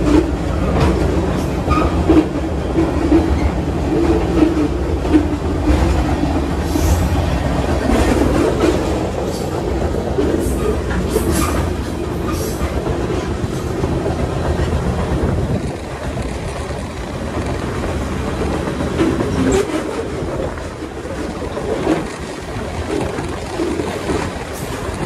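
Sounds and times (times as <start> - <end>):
train wheels rumbling and rattling: 0.0 - 25.0.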